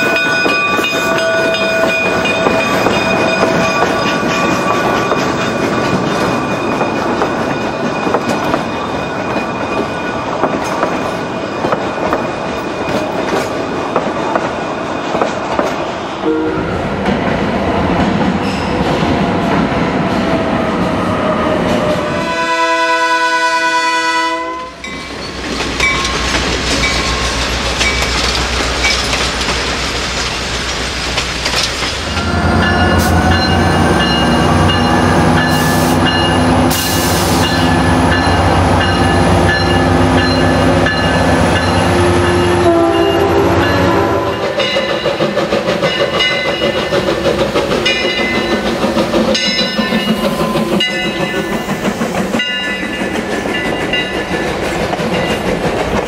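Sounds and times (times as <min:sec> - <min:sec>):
diesel locomotive engine droning: 0:00.0 - 0:56.0
light-rail car multi-note tone: 0:00.0 - 0:56.0
steam locomotive exhaust beating: 0:00.0 - 0:56.0
train wheel rumble: 0:00.0 - 0:56.0.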